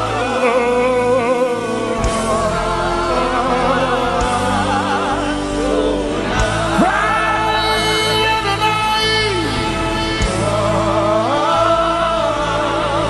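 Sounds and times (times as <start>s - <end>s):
band accompaniment: 0.0s - 13.0s
choir singing held notes: 0.0s - 13.0s.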